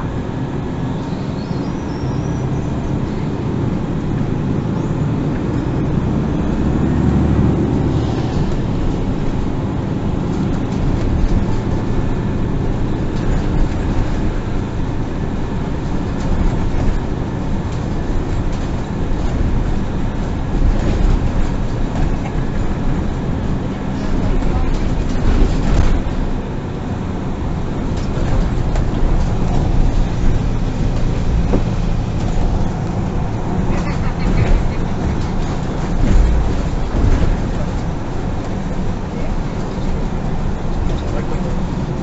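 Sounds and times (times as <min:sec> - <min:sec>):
bus engine running: 0:00.0 - 0:42.0
heavy low rumble: 0:00.0 - 0:42.0.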